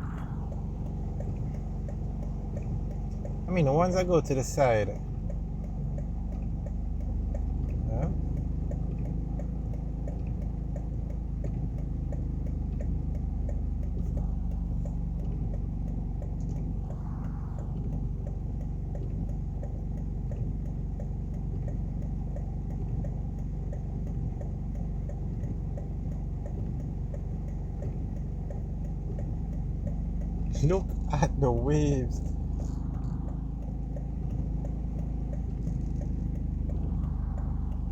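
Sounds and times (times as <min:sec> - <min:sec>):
fast regular ticking: 0:00.0 - 0:37.9
vehicle idling rumble: 0:00.0 - 0:37.9.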